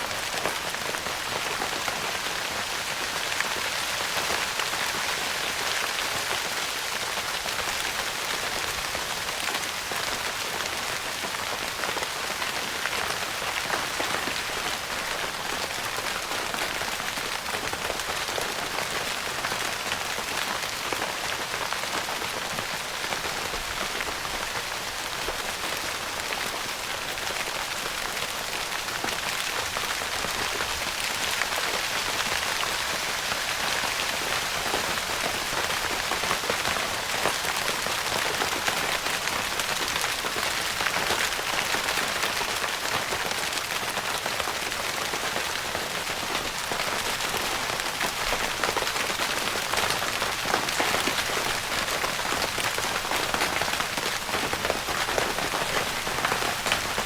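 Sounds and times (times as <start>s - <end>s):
rain pattering on a tent roof: 0.0s - 57.0s.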